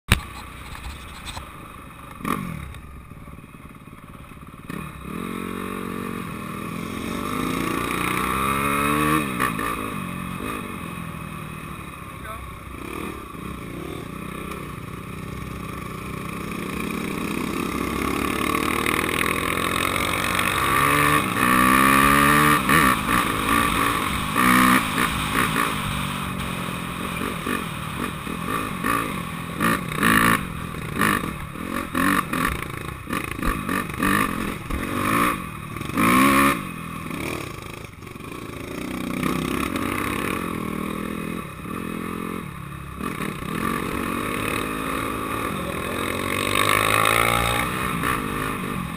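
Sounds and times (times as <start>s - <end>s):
dirt bike engine revving: 4.6s - 11.6s, 12.2s - 48.9s.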